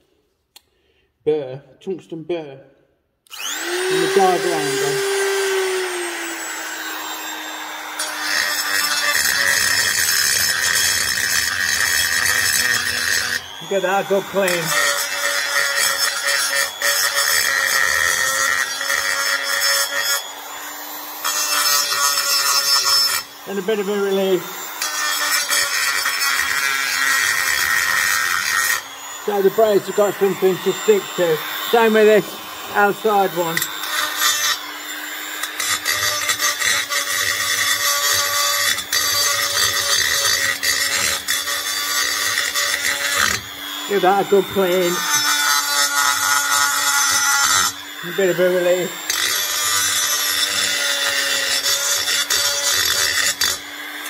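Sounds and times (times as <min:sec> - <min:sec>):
burr grinding metal: 0:03.3 - 0:54.0
die grinder motor whine: 0:03.3 - 0:54.0.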